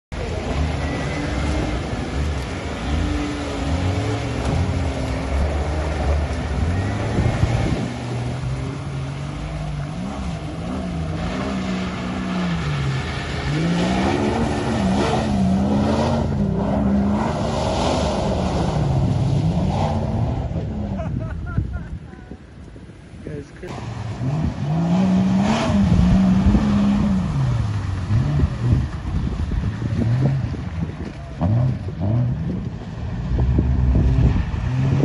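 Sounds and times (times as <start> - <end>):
truck engine revving: 0.2 - 21.3, 23.6 - 35.0.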